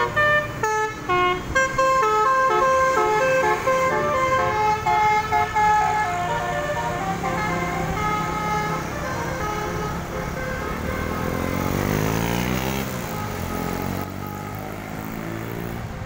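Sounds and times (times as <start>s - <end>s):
multi-tone bus horn tune: 0.0s - 15.4s
engine and traffic noise: 0.0s - 16.0s.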